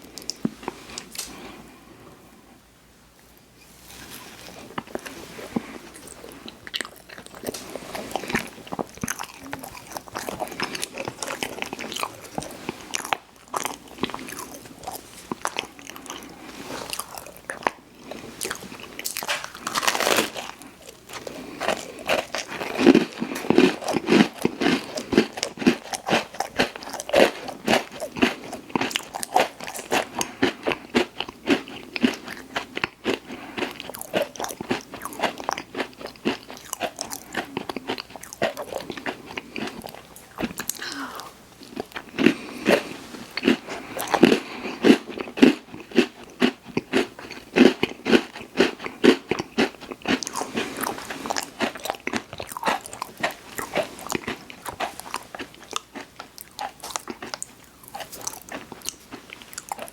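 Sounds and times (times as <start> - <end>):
person chewing crunchy snack: 3.9 - 59.9.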